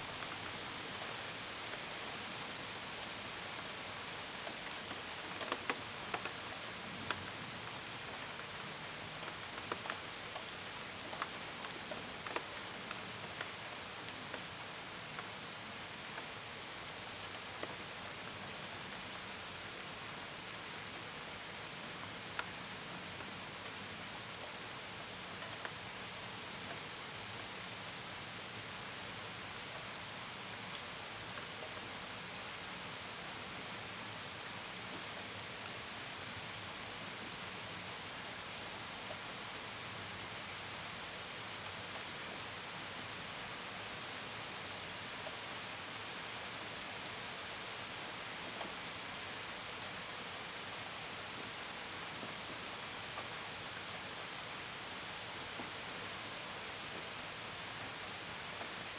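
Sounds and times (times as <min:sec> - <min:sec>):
gentle rain: 0:00.0 - 0:58.9.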